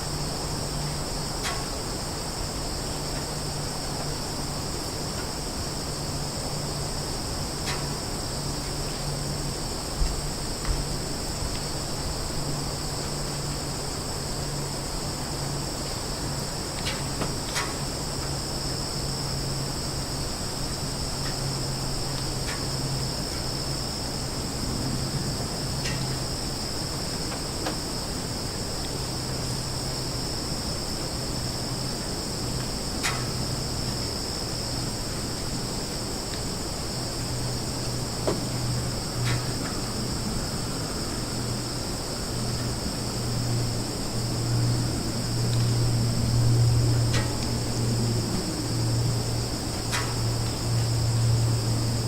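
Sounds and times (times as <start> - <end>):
high-pitched insect chorus: 0.0 - 52.0
low steady drone: 0.0 - 52.0.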